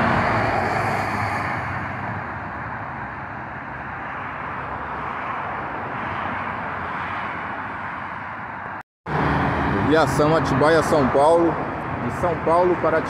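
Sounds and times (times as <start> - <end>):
highway traffic hum: 0.0 - 13.0.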